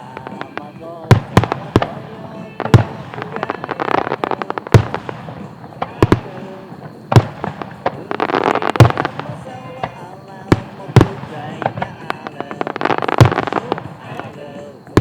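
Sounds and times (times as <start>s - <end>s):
firework crackling: 0.0s - 15.0s
firework shells booming: 0.0s - 15.0s.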